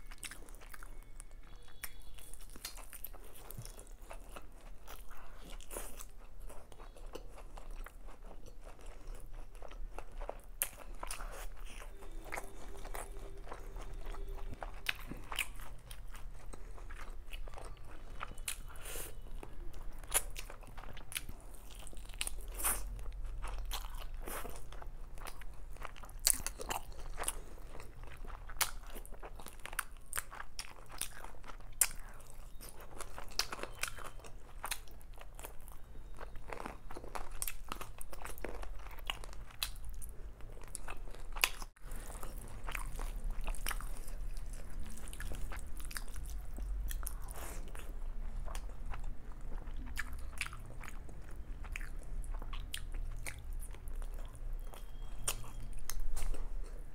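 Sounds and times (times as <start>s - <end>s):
wet chewing and crunching: 0.0s - 56.9s.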